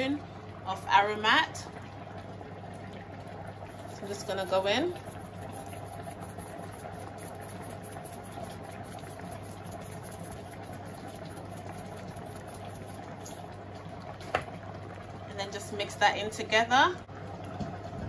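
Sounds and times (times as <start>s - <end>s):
pot bubbling on stove: 0.0s - 18.0s.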